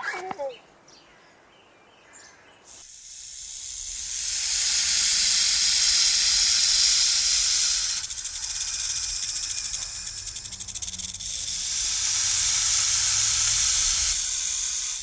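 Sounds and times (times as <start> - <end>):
loud animal hiss: 2.7 - 15.0.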